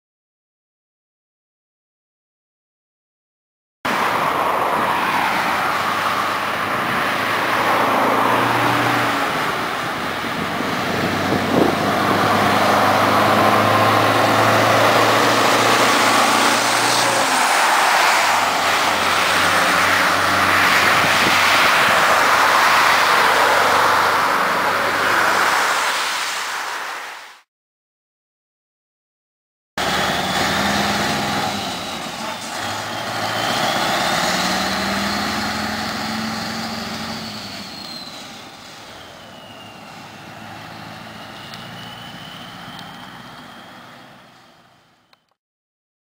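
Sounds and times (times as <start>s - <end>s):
road and traffic noise: 3.8s - 27.5s, 29.8s - 45.4s
diesel truck accelerating: 3.9s - 26.9s, 29.8s - 45.4s.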